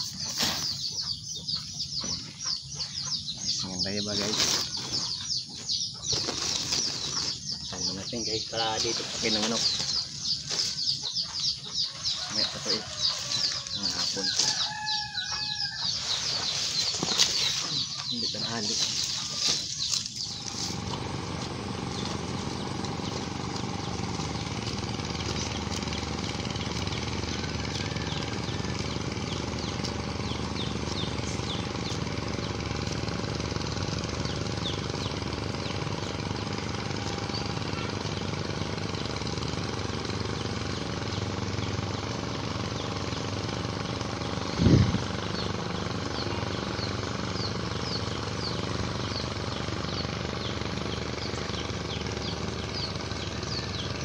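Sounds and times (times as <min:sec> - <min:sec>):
steady motor drone: 0:00.0 - 0:54.0.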